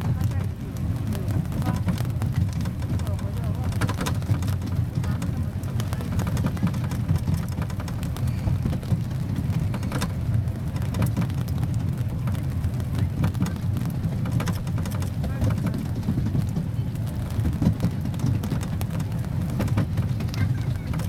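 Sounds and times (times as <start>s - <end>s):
light rattling and clicking: 0.0s - 21.0s
small train rumbling: 0.0s - 21.0s.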